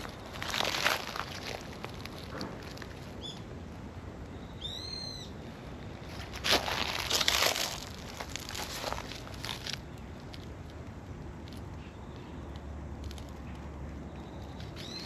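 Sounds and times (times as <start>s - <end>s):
rustling and handling noise: 0.0s - 3.2s, 5.8s - 15.0s.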